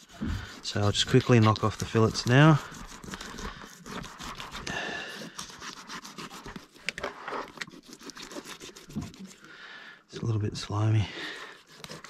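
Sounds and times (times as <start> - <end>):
knife scratching through fish scales: 0.0 - 9.5, 11.2 - 12.0.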